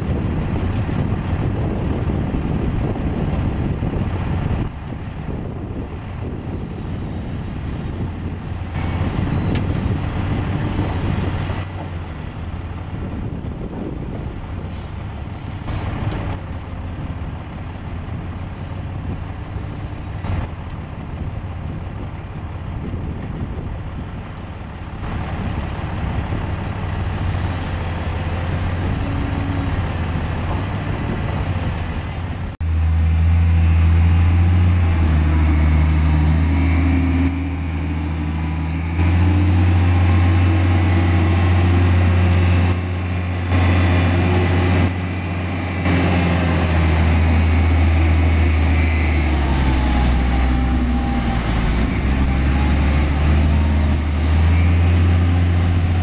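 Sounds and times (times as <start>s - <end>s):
dump truck diesel engine under load: 0.0s - 56.0s
excavator running: 0.0s - 56.0s.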